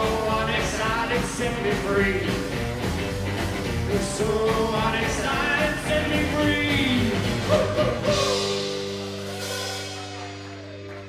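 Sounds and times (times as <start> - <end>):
person singing: 0.0 - 2.4, 3.9 - 11.0
rockabilly band playing: 0.0 - 11.0.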